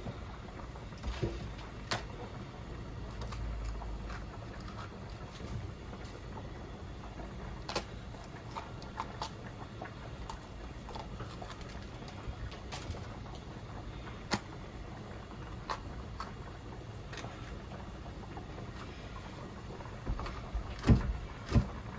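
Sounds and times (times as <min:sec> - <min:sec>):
low background hum: 0:00.0 - 0:21.9.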